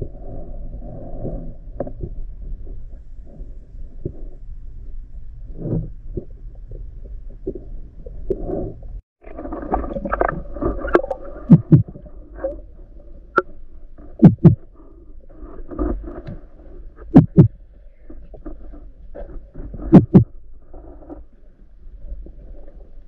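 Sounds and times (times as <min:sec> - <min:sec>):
muffled underwater rumble: 0:00.0 - 0:23.0.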